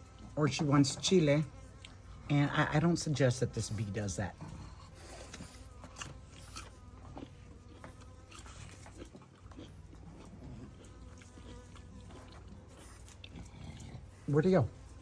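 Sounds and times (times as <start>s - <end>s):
bee buzzing in flight: 0.0s - 9.0s, 9.9s - 15.0s.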